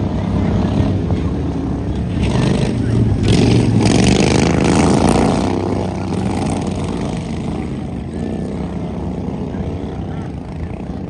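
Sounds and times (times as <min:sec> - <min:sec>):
racing lawn mower engines: 0:00.0 - 0:11.0.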